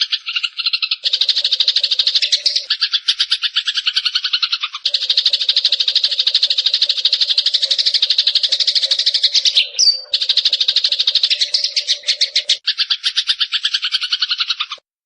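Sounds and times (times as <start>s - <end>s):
sparrow chirping trills: 0.0s - 14.8s.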